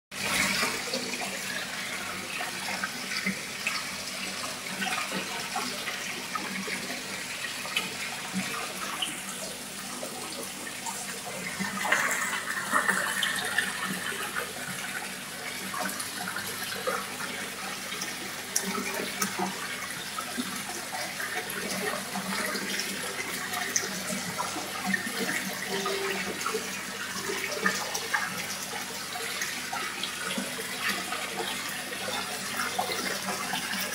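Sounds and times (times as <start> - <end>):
water running and splashing: 0.1 - 33.9.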